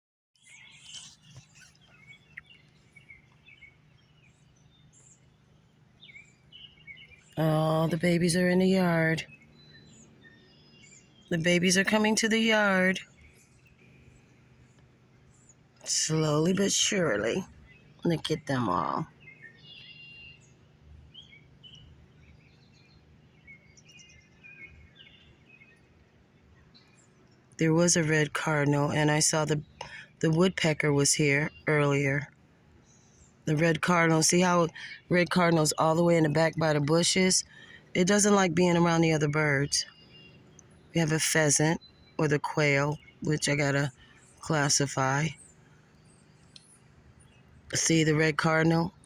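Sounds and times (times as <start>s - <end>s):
birds chirping faintly: 0.4s - 49.0s
steady low hum: 0.4s - 49.0s.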